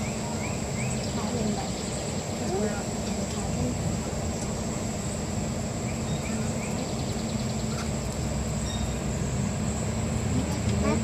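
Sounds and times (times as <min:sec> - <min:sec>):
cable car cabin rumble and hum: 0:00.0 - 0:11.0.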